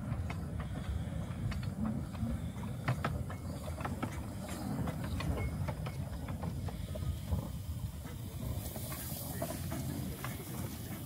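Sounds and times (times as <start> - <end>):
steam locomotive rumbling: 0.0 - 11.0
wheels clicking and clanking: 0.0 - 11.0.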